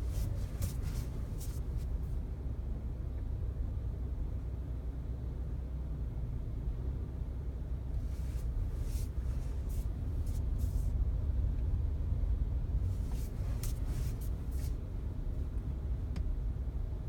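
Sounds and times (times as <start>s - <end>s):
low rumble inside car cabin: 0.0s - 17.0s.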